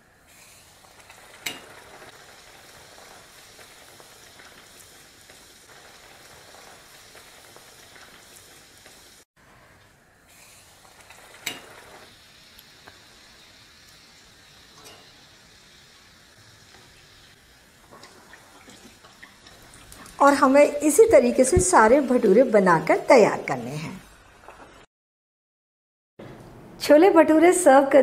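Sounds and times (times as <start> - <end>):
oil sizzling and bubbling: 0.0 - 24.9.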